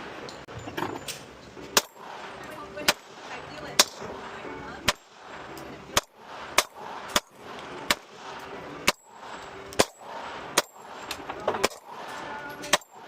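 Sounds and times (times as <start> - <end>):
pistol shots: 1.7 - 13.0.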